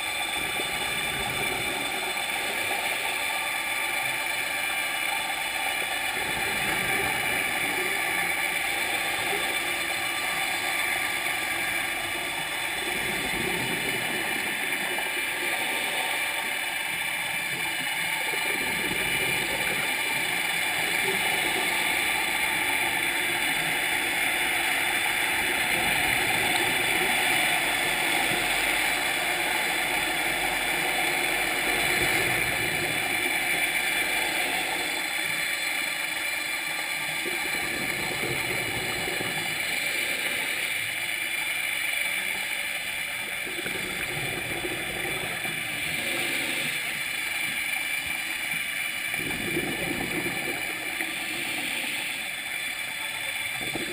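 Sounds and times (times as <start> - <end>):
vessel motor hum underwater: 0.0 - 53.9.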